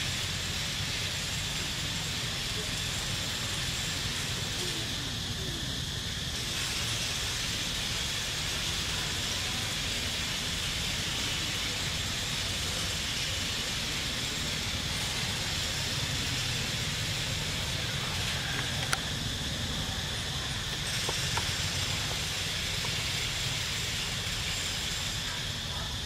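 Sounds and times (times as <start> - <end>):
constant hiss: 0.0 - 26.0.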